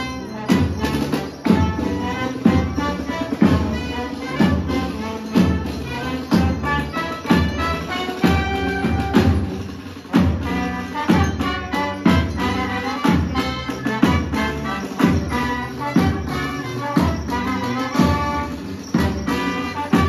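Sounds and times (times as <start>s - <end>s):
brass band playing dance tune: 0.0s - 20.0s
heavy drum beat: 0.0s - 20.0s.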